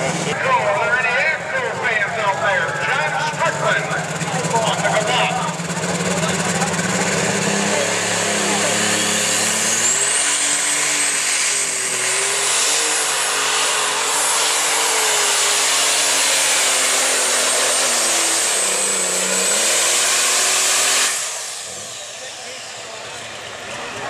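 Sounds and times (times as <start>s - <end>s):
tractor engine running flat out: 0.0s - 24.0s.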